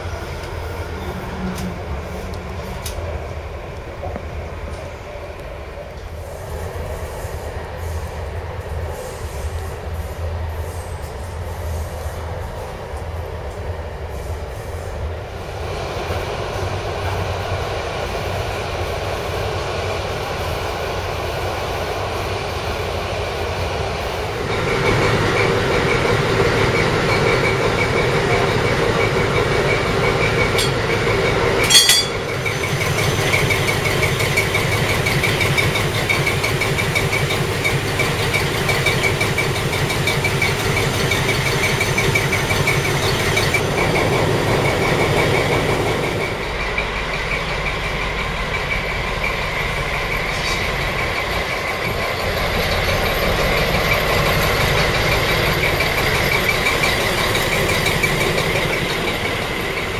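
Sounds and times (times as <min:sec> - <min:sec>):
diesel locomotive idling whine: 0:00.0 - 0:59.9
freight train rolling past: 0:00.0 - 0:59.9.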